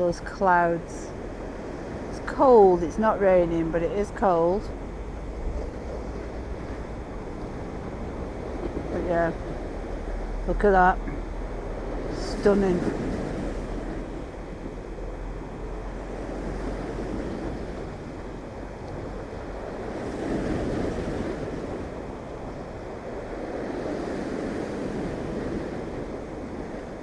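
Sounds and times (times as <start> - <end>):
sea waves breaking on shore: 0.0 - 27.0
wind on microphone: 0.0 - 27.0.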